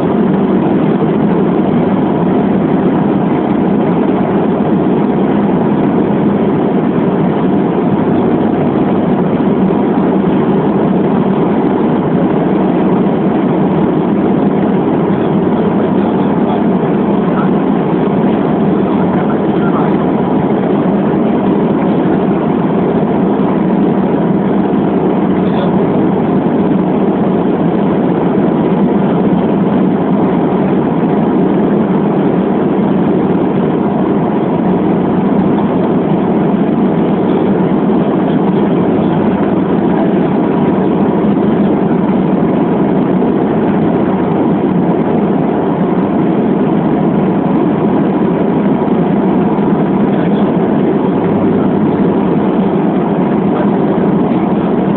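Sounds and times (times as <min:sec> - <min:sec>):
turboprop cabin drone: 0:00.0 - 0:54.9.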